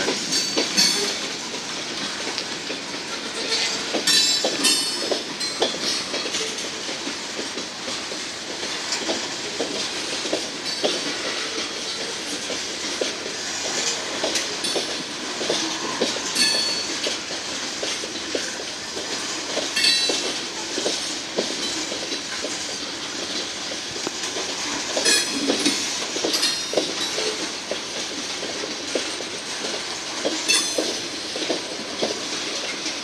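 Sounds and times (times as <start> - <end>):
train wheels clacking on rail joints: 0.0 - 33.0.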